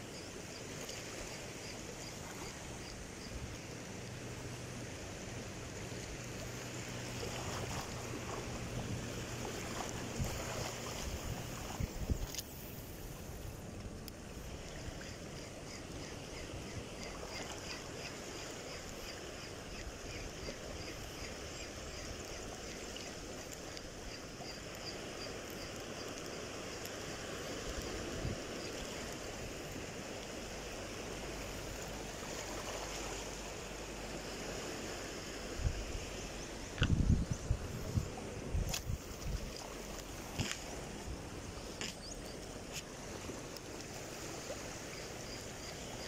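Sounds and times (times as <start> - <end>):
water lapping at shore: 0.0 - 46.0
wind: 0.0 - 46.0.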